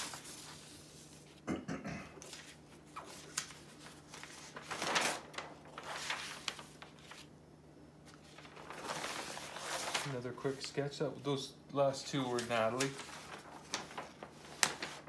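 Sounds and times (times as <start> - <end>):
paper sheets rustling: 0.0 - 1.4, 2.2 - 7.4, 8.0 - 11.4, 12.0 - 15.0
faint low hum: 0.0 - 15.0.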